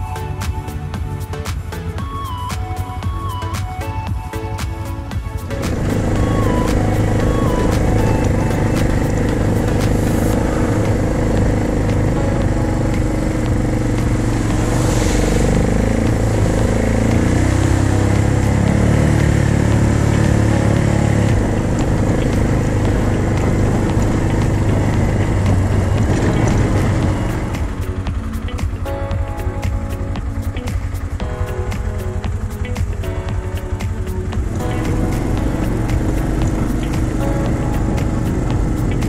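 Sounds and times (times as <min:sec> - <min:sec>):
off-road vehicle engine running: 0:00.0 - 0:39.0.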